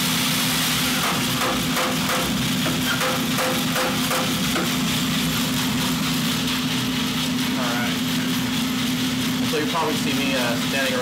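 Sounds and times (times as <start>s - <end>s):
coffee roaster motor and fan hum: 0.0s - 11.0s.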